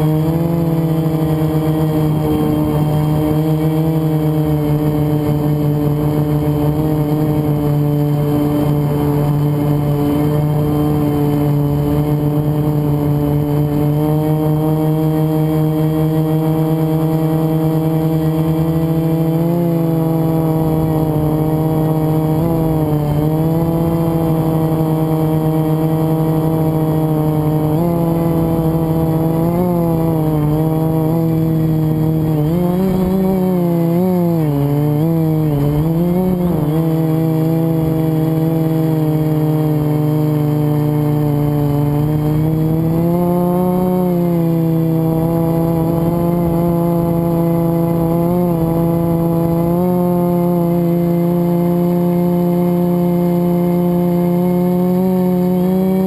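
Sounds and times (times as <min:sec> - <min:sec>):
drone motors whining: 0:00.0 - 0:56.0.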